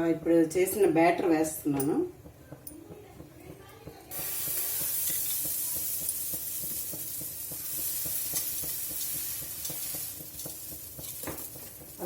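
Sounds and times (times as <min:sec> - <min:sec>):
ladle tapping: 0:00.7 - 0:12.0
batter sizzling on hot pan: 0:02.2 - 0:12.0.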